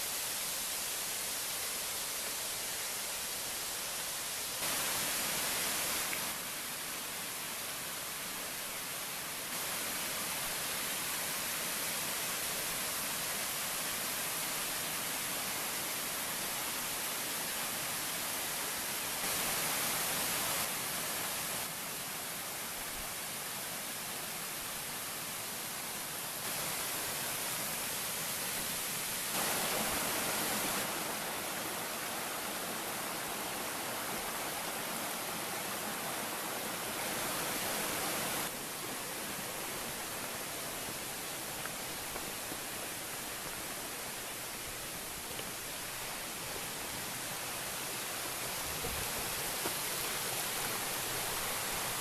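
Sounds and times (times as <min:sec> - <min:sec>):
creek running over rocks: 0:00.0 - 0:52.0.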